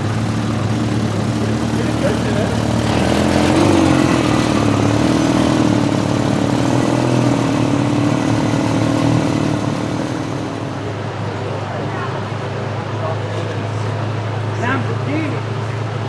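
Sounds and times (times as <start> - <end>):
street traffic noise: 0.0 - 16.0
vehicle engine running: 0.0 - 16.0.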